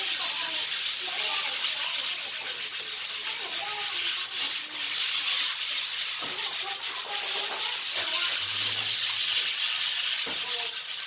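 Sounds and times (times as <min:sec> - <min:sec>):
pad rubbing on cement floor: 0:00.0 - 0:11.0.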